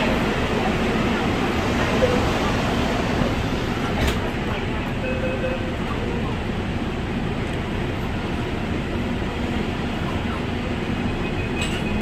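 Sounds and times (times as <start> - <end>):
subway train wheels rumbling: 0.0 - 12.0.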